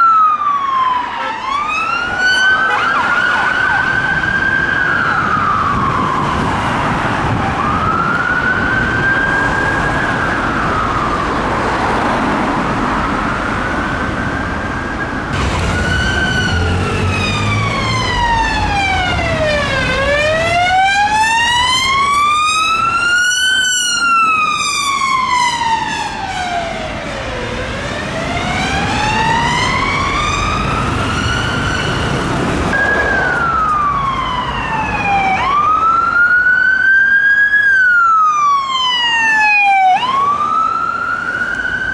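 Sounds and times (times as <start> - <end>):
city traffic: 0.0 - 41.9
police siren wailing: 0.0 - 41.9.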